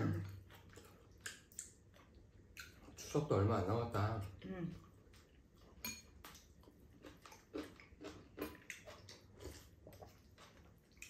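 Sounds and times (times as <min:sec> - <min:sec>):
chewing noodles: 0:00.0 - 0:03.2, 0:04.2 - 0:11.0.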